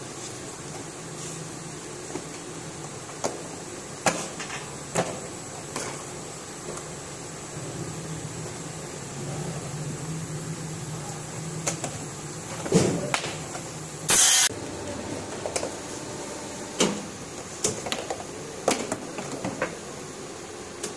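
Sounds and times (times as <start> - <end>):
steady low hum: 0.0 - 20.8.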